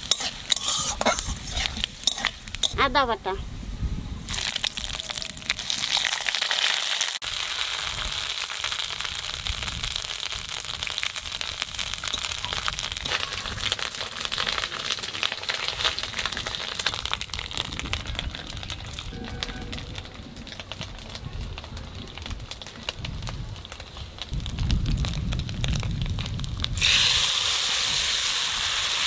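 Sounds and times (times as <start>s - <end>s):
spices sizzling in hot oil: 0.0s - 3.7s, 4.3s - 29.0s.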